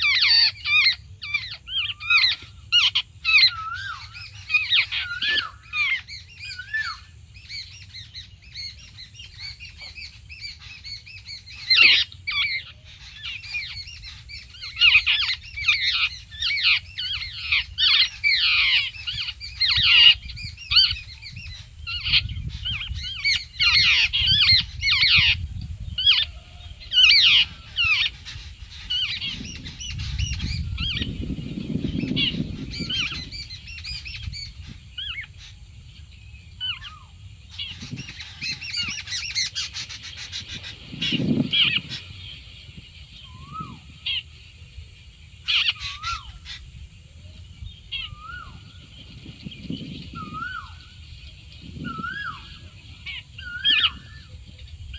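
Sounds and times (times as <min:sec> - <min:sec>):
birds squawking: 0:00.0 - 0:35.7, 0:36.6 - 0:42.5, 0:45.4 - 0:46.8, 0:51.7 - 0:54.3.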